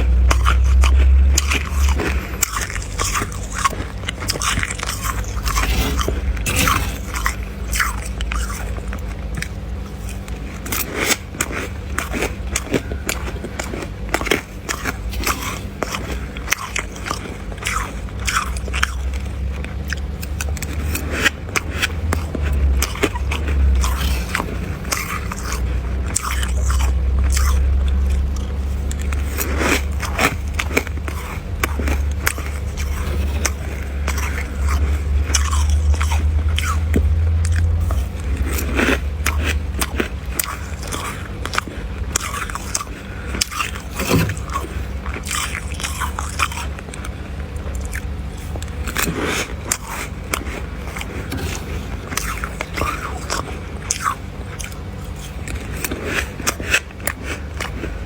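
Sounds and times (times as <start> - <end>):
person crunching frost: 0.0 - 58.0
steady low hum: 0.0 - 58.0.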